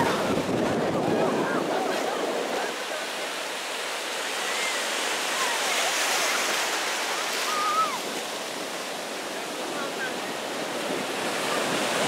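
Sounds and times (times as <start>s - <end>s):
wave breaking: 0.0s - 10.1s
surf washing through shallows: 0.0s - 12.0s.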